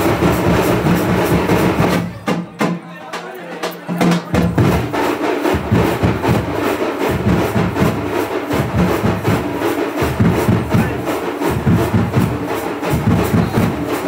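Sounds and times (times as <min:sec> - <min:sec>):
drums in fast steady beat: 0:00.0 - 0:14.0.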